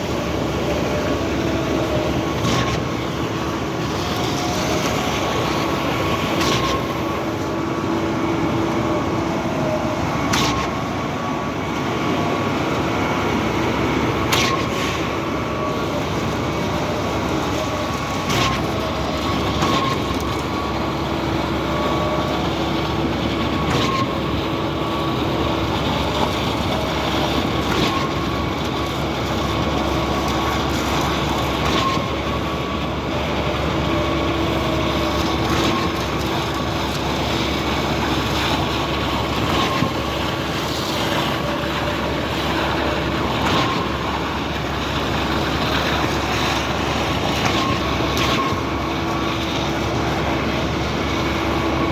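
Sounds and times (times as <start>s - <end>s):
concrete pump engine drone: 0.0s - 51.9s.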